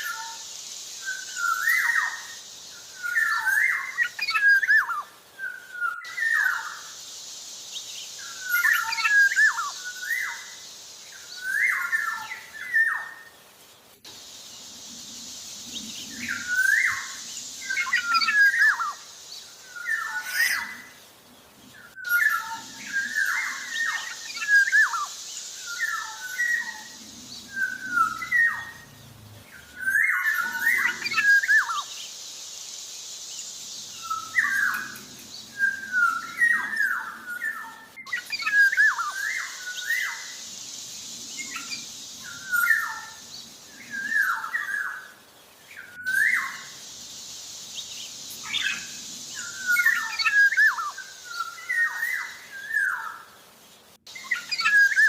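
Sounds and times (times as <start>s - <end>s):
bird singing whistled notes: 0.0s - 13.4s, 15.3s - 21.0s, 21.8s - 32.2s, 33.2s - 53.3s, 54.1s - 55.0s
steady high hiss: 0.0s - 55.0s.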